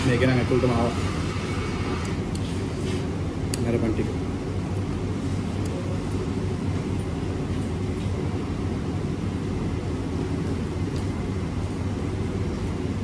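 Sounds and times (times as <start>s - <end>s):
machinery hum and rumble: 0.0s - 13.0s.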